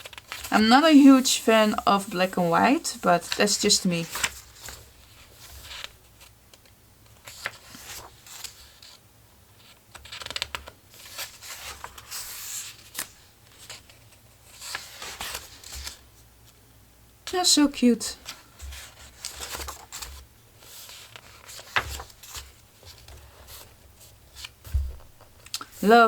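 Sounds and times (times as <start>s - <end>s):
paper pages being turned: 0.0s - 9.0s, 9.6s - 16.0s, 18.2s - 25.9s.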